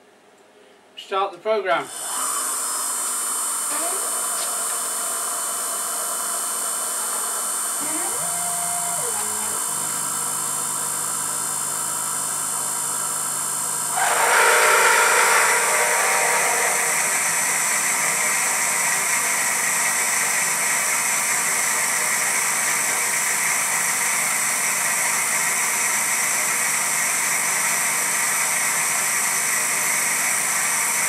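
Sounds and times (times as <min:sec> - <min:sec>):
drill cutting hiss in metal: 0:01.9 - 0:31.0
milling machine spindle humming: 0:01.9 - 0:31.0.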